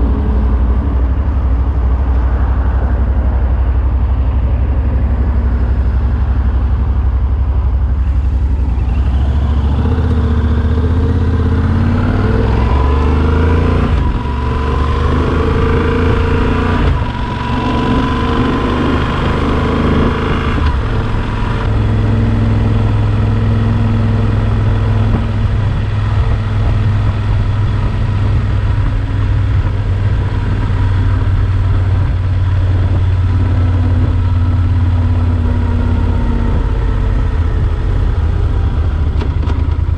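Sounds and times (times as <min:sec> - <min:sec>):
motorcycle engine revving and shifting: 0:00.0 - 0:39.9.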